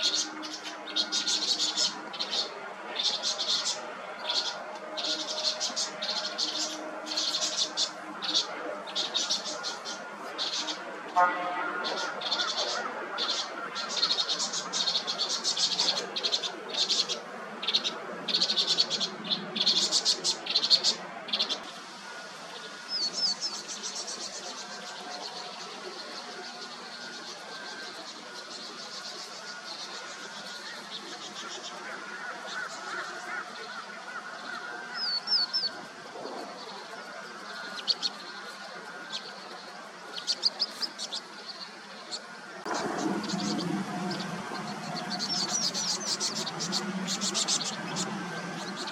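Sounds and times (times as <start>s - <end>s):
small birds high-pitched calls: 0.0s - 11.2s, 11.8s - 48.9s
lower repeated bird call: 0.0s - 48.9s.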